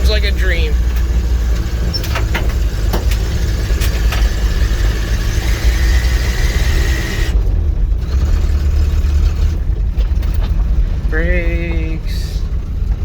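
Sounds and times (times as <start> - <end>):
engine deep low rumble: 0.0 - 13.0.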